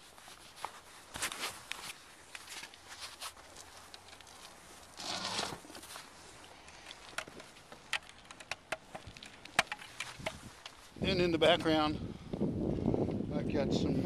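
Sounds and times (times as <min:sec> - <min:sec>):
light rustling: 0:00.0 - 0:11.8.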